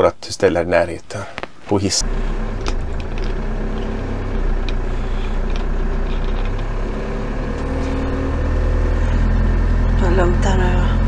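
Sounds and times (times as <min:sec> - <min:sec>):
motorhome engine humming: 0:02.0 - 0:11.0.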